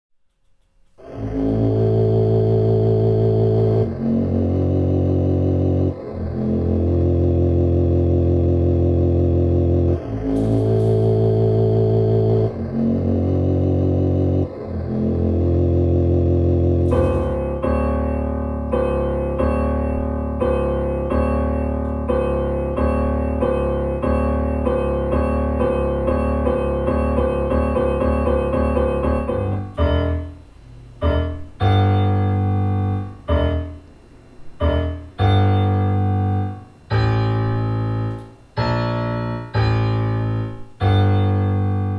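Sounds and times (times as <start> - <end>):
electronic piano-like notes: 1.0 - 41.9.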